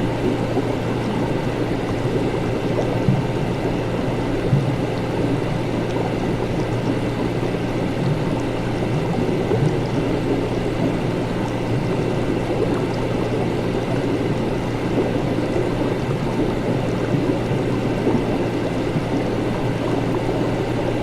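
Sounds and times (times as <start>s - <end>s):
liquid bubbling and gurgling: 0.0s - 21.0s
low constant hum: 0.0s - 21.0s.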